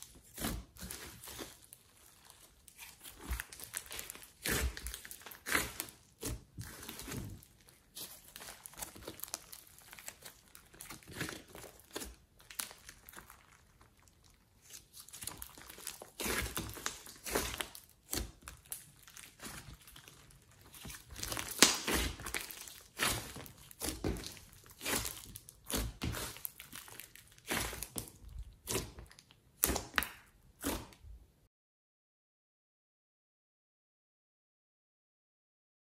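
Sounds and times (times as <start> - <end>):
slime squelching and popping: 0.0 - 31.1.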